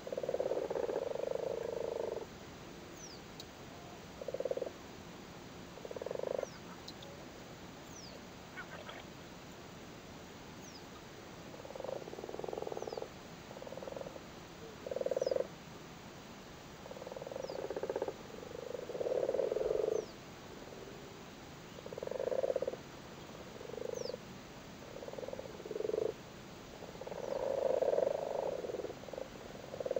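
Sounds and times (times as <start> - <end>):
frogs croaking: 0.0 - 2.4, 3.0 - 4.8, 5.7 - 7.3, 7.9 - 9.2, 10.6 - 15.6, 16.8 - 21.0, 21.7 - 29.9.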